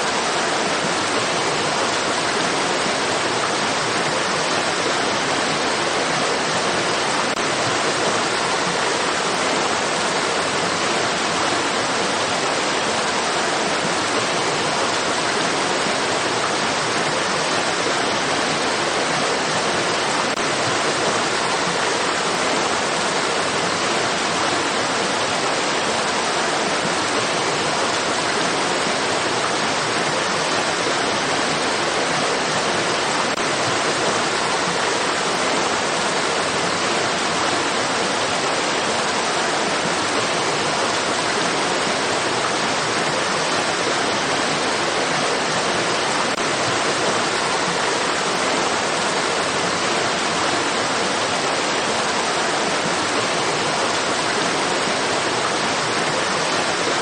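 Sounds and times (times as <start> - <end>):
water rushing in a stream: 0.0 - 57.0.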